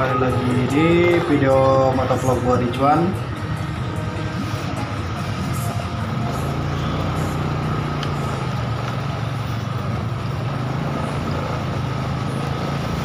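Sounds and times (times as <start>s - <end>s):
thin steady whine: 0.0s - 11.4s
motorcycle engine humming: 0.0s - 13.0s
road noise: 0.0s - 13.0s.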